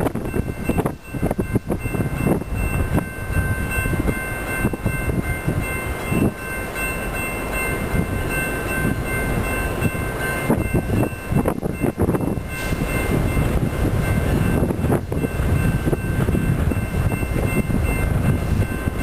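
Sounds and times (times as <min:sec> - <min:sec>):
train approaching: 0:00.0 - 0:19.0
wind noise on microphone: 0:00.0 - 0:19.0
level crossing bell ringing: 0:00.2 - 0:19.0.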